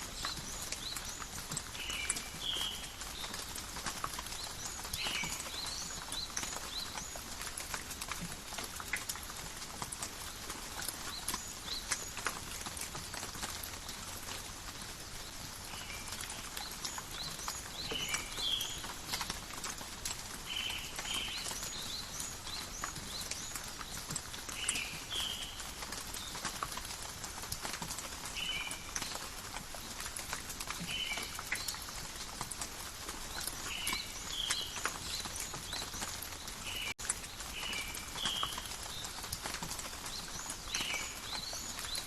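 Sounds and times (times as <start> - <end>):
light rain with dripping drops: 0.0 - 42.0.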